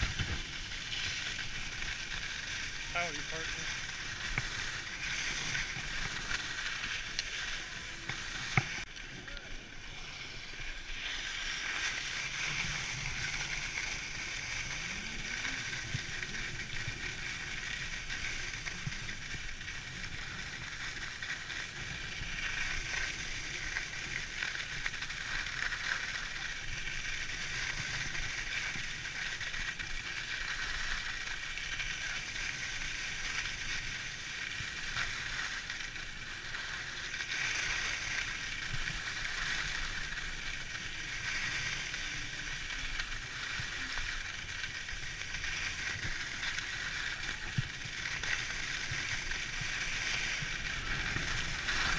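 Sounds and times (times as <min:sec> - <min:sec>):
skis scraping over snow: 0:00.0 - 0:51.9.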